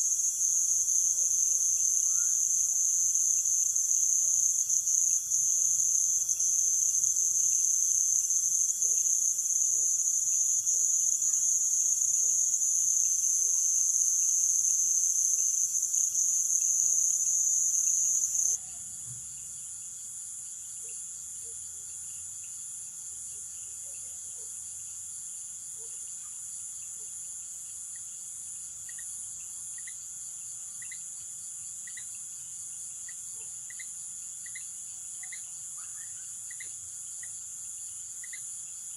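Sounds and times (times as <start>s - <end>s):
night insect chorus: 0.0s - 38.9s.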